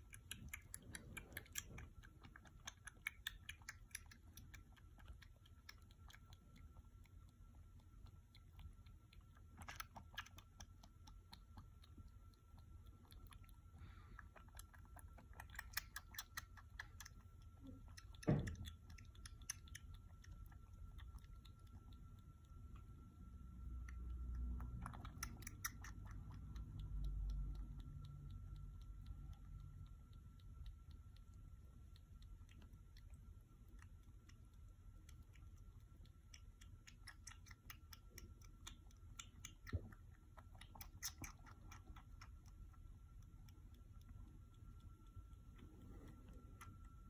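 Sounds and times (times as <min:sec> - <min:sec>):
kitten sucking from bottle: 0:00.0 - 0:47.0.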